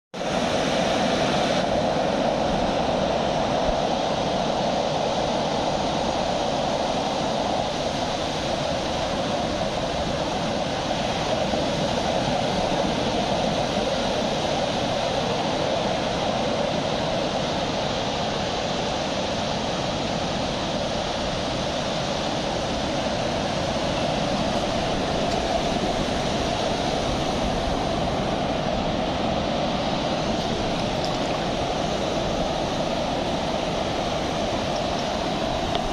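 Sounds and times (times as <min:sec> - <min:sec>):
sea surf washing on beach: 0:00.2 - 0:35.9.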